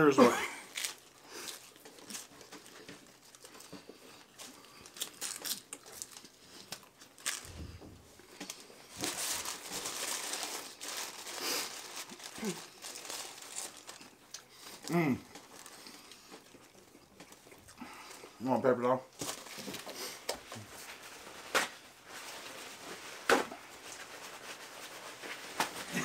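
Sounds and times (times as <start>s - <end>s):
paper wrappers crinkling: 0.1s - 17.4s, 19.1s - 26.0s.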